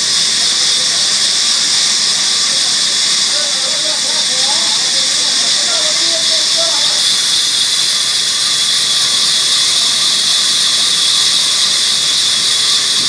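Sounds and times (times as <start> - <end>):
saw cutting through wood: 0.0 - 13.0.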